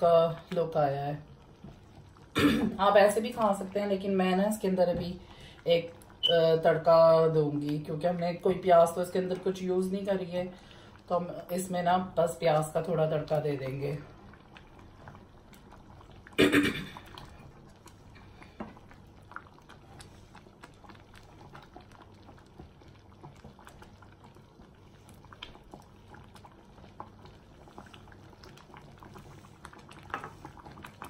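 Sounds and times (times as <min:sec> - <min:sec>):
thick stew bubbling and popping: 0:00.0 - 0:31.0.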